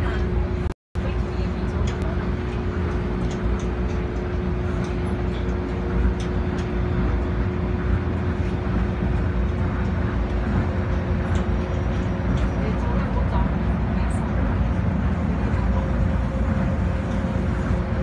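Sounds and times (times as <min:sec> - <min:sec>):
constant hum: 0:00.0 - 0:18.0
monorail car rumble: 0:00.0 - 0:18.0.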